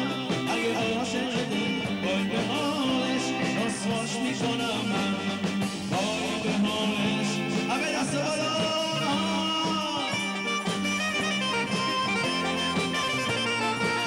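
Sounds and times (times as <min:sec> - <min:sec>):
live band playing dance music: 0:00.0 - 0:14.0
person singing: 0:00.0 - 0:14.0.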